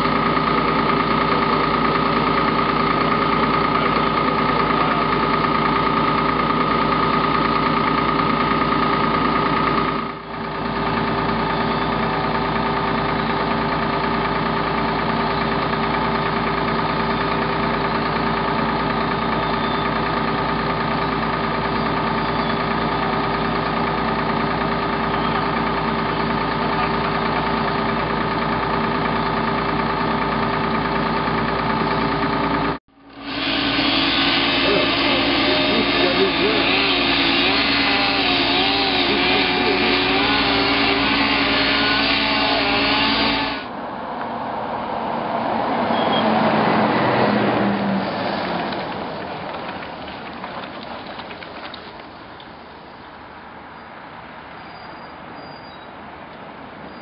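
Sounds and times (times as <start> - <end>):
diesel engine drone: 0.0 - 54.6.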